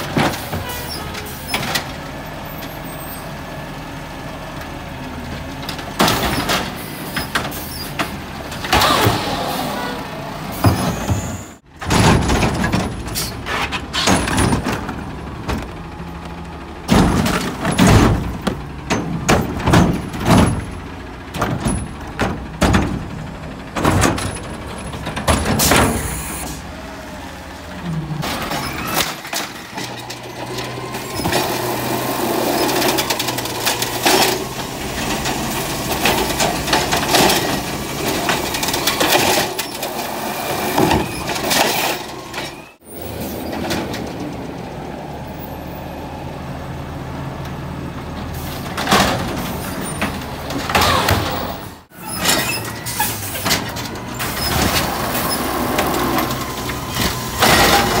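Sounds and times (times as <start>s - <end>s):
trash carts banging and clattering: 0.0s - 58.0s
truck engine and hydraulics: 0.0s - 58.0s.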